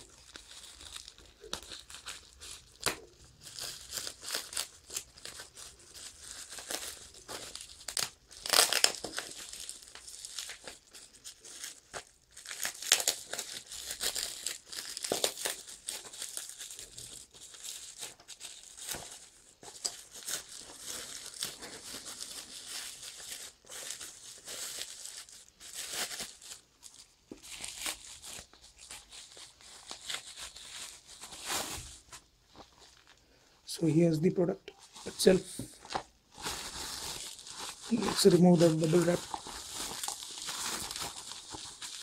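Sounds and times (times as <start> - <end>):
packaging tearing: 0.0 - 32.0, 34.9 - 42.0
packaging crinkling: 0.0 - 33.3, 34.7 - 42.0.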